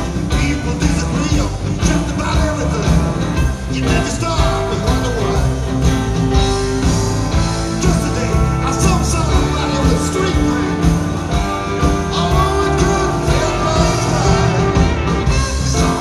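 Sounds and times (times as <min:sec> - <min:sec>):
drum kit beat: 0:00.0 - 0:16.0
lead vocal singing: 0:00.0 - 0:16.0
live rock band playing: 0:00.0 - 0:16.0.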